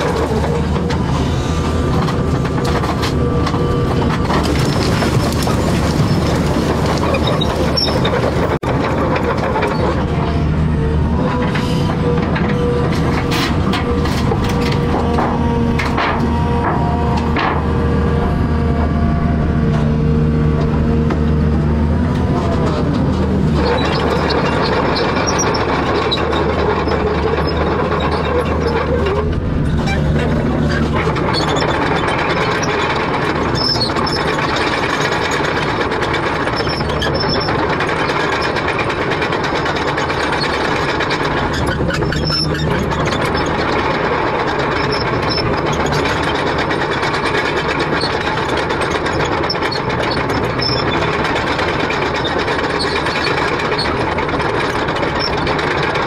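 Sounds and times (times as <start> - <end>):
heavy machinery engine running: 0.0 - 56.0.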